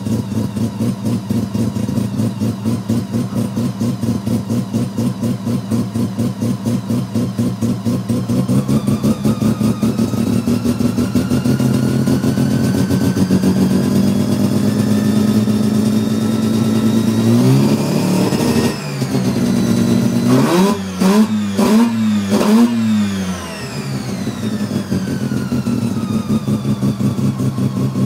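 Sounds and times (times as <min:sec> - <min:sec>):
rotary engine revving: 0:01.3 - 0:28.0.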